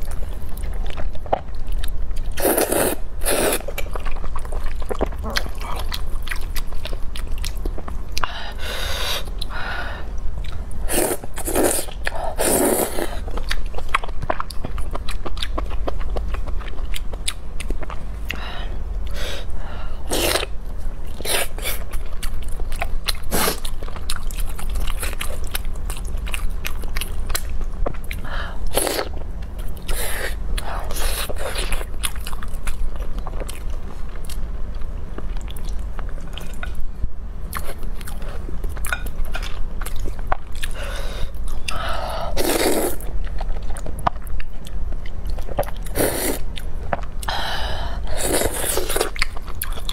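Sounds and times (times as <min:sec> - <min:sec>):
chewing and biting food: 0:00.0 - 0:08.4, 0:11.3 - 0:18.4, 0:20.2 - 0:28.2, 0:28.8 - 0:36.9, 0:37.5 - 0:41.8, 0:42.5 - 0:47.4, 0:48.1 - 0:49.9.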